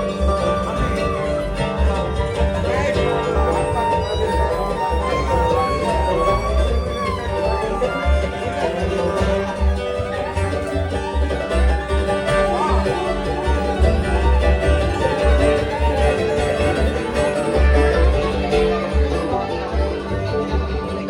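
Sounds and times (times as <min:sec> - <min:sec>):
banjo rapid picking: 0:00.0 - 0:21.0
bluegrass band playing: 0:00.0 - 0:21.0.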